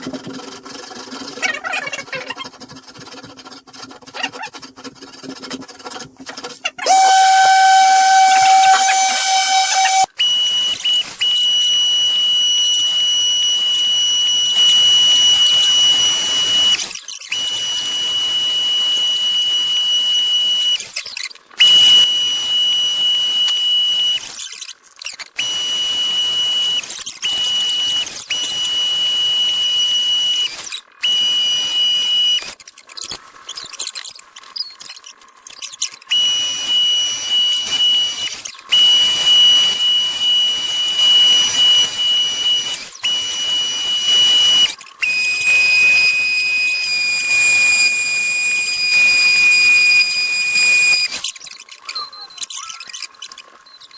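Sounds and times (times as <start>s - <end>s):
power tool whining: 0.3s - 51.6s.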